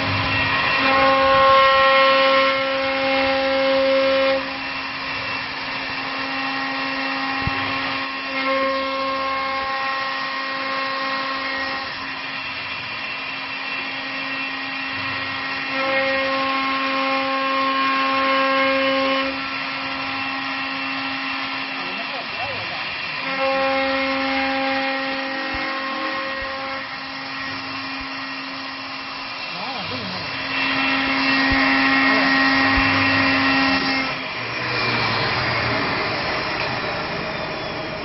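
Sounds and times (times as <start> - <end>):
wood lathe machine whine: 0.0 - 38.0.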